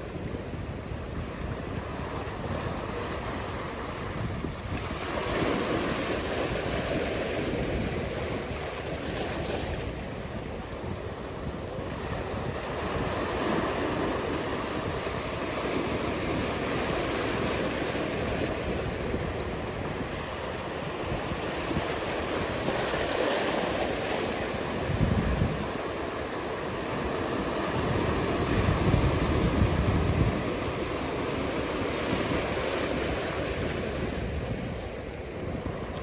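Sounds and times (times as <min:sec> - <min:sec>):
ocean surf washing: 0:00.0 - 0:36.0
wind rumbling on microphone: 0:00.0 - 0:36.0.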